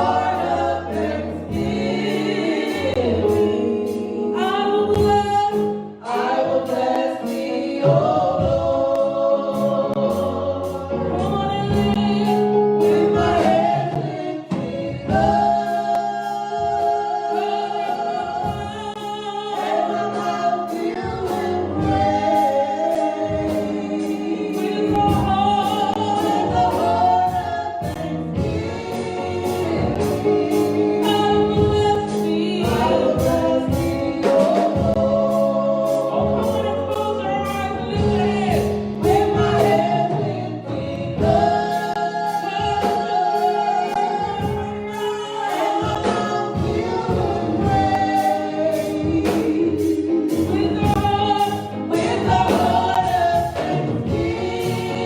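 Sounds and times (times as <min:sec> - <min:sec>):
choir singing: 0:00.0 - 0:55.0
instrumental backing: 0:00.0 - 0:55.0.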